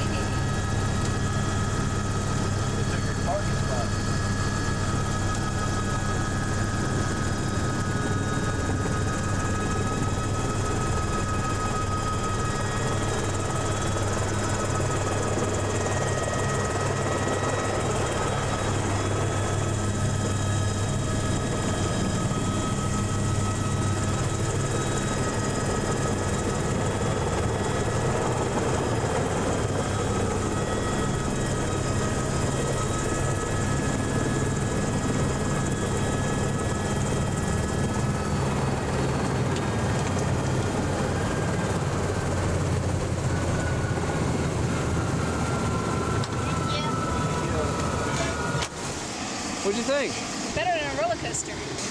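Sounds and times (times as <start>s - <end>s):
helicopter engine low drone: 0.0s - 51.9s
helicopter turbine high whine: 0.0s - 51.9s.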